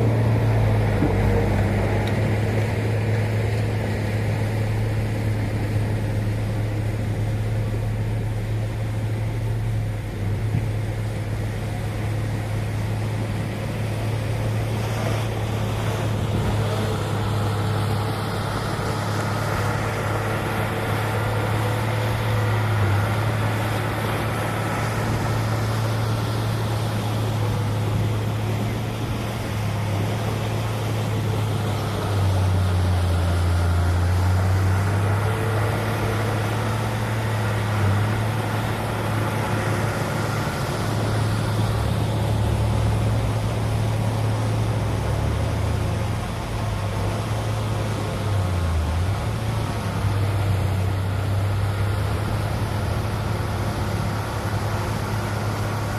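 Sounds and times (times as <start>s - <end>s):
heavy diesel engine under load: 0.0s - 55.9s.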